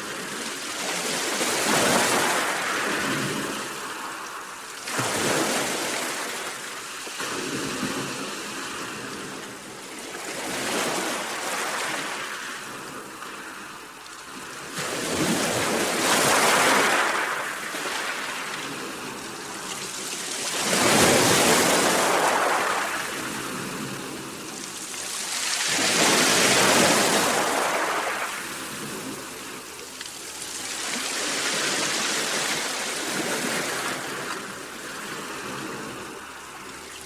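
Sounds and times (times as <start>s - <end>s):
sea waves breaking: 0.0s - 37.0s.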